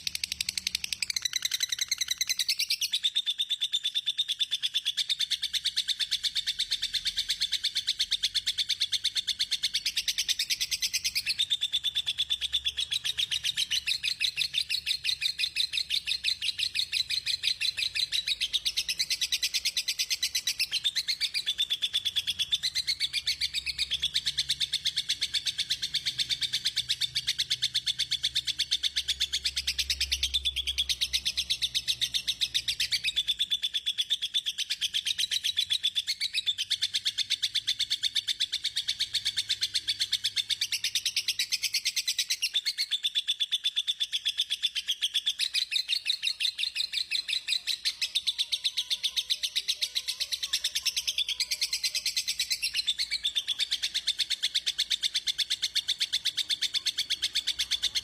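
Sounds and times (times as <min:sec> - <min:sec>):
songbird chirping rapidly: 0:00.0 - 0:58.0.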